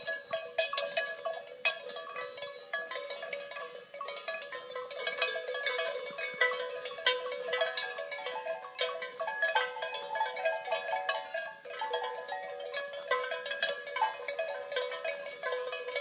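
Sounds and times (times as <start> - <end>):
cow bells ringing: 0.0 - 16.0.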